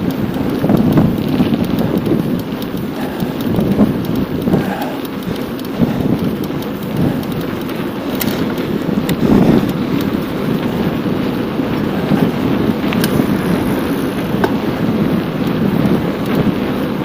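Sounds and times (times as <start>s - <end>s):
bicycle ticks and rattles: 0.0s - 17.0s
wind buffeting microphone: 0.0s - 17.0s.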